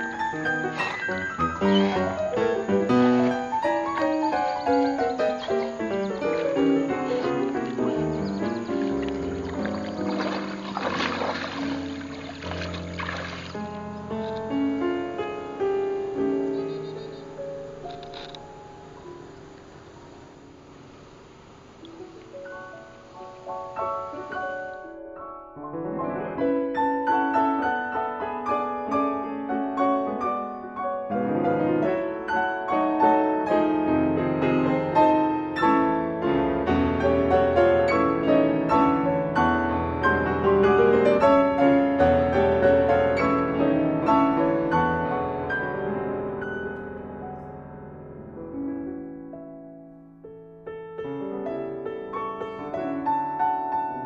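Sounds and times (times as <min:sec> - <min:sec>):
piano background music: 0:00.0 - 0:54.0.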